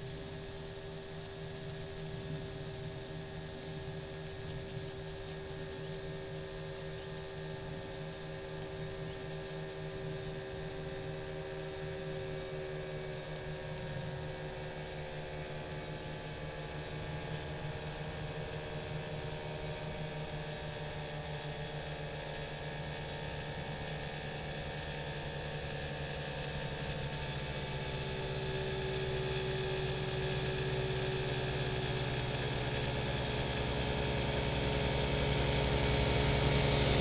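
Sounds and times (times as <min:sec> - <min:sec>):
distant aircraft engines droning: 0:00.0 - 0:37.0
steady high-pitched hiss: 0:00.0 - 0:37.0.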